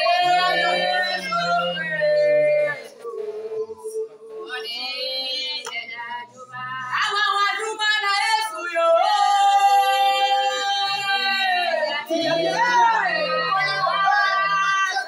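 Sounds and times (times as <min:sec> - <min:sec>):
high voice singing slowly: 0:00.0 - 0:07.0, 0:09.0 - 0:15.0.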